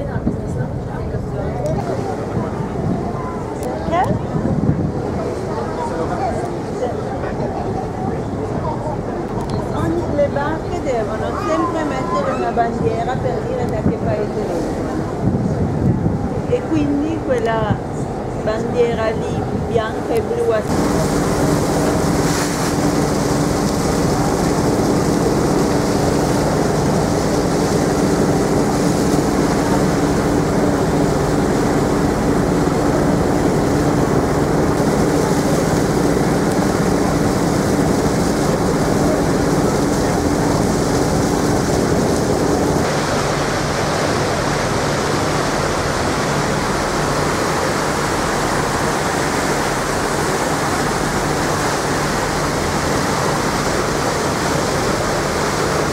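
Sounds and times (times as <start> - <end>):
ship engines droning: 0.0 - 55.9
wake churning along hull: 0.0 - 55.9.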